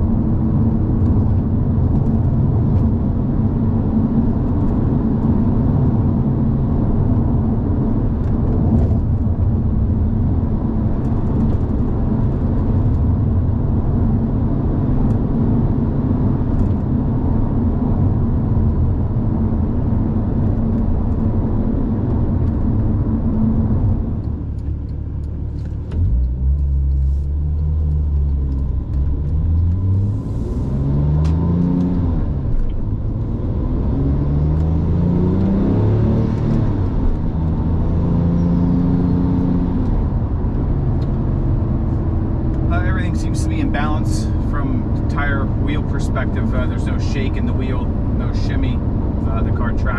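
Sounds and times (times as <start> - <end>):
car engine accelerating: 0.0 - 49.9
road noise: 0.0 - 49.9.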